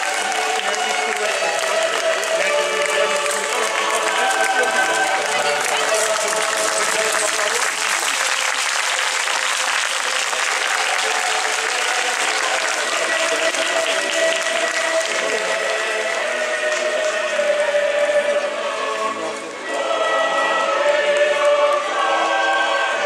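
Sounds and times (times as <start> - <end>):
crowd applauding: 0.0 - 23.0.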